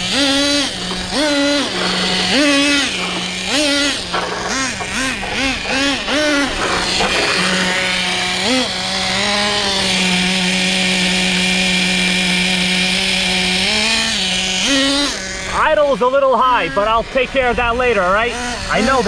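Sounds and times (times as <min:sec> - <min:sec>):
model engine revving and idling: 0:00.0 - 0:19.0.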